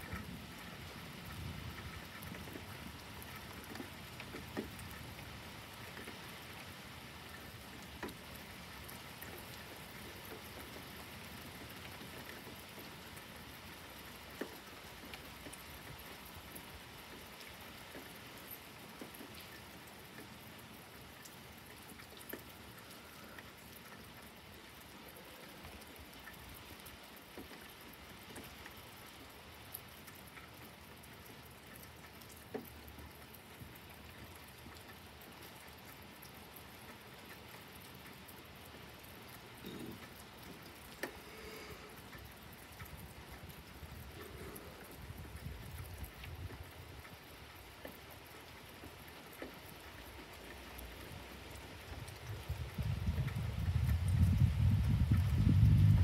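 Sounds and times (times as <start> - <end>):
faint steady rain: 0.0 - 56.0
sharp rain drops: 0.0 - 56.0.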